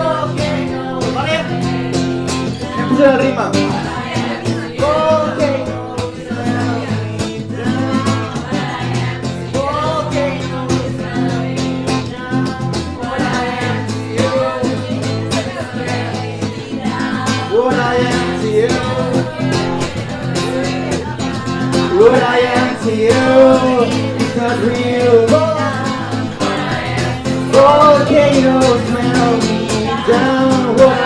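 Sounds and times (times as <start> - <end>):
acoustic guitar strumming: 0.0 - 31.0
people singing: 0.0 - 31.0.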